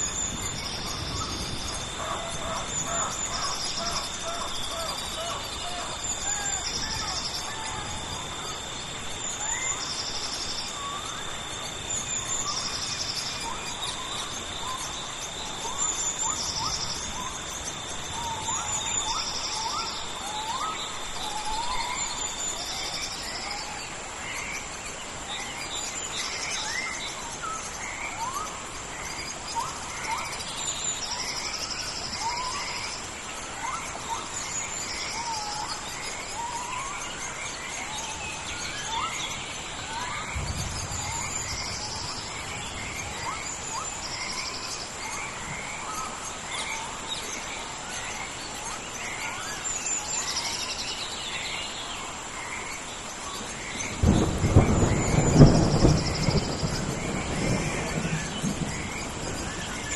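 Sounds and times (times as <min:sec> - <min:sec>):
insects buzzing in bursts: 0:00.0 - 0:50.8, 0:52.2 - 0:59.9
birds and frogs chirping: 0:00.0 - 0:59.9
high insect whine: 0:00.0 - 0:59.9
rain hissing: 0:00.0 - 0:59.9.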